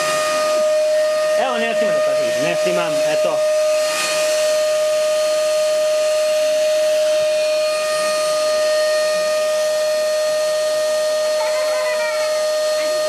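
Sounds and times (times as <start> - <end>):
air rushing through hose: 0.0 - 11.4
vacuum cleaner whine: 0.0 - 13.0.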